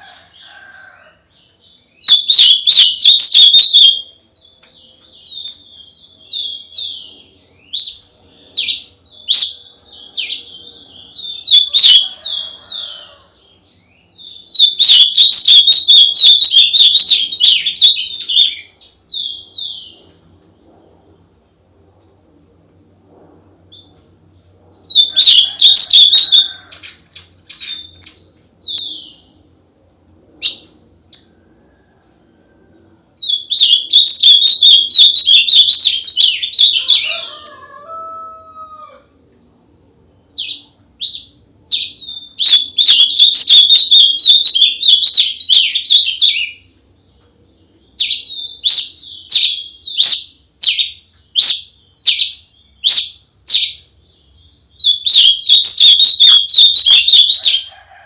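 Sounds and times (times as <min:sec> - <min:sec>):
songbird singing trills: 0:01.2 - 0:20.1, 0:22.5 - 0:29.3, 0:33.2 - 0:37.6, 0:40.2 - 0:57.7.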